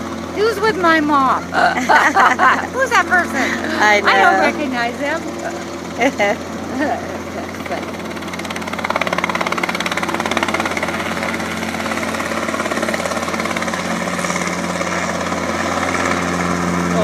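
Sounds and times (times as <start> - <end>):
helicopter piston engine: 0.0 - 17.0
rotor blades beating: 0.0 - 17.0.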